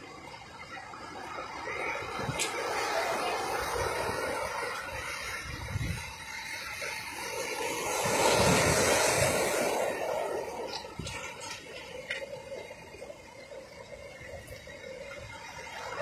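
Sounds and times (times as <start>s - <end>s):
waves breaking on a beach: 0.0s - 16.0s.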